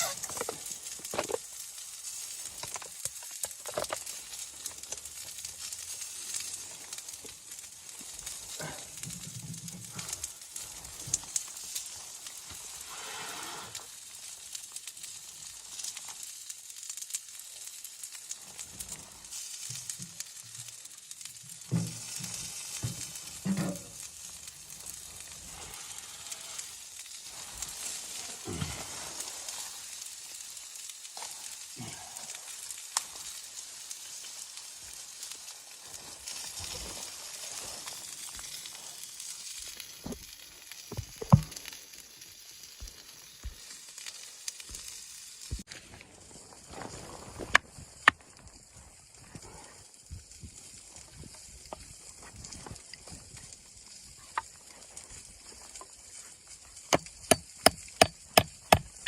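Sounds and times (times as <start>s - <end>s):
sizzling hiss: 0.0s - 59.0s.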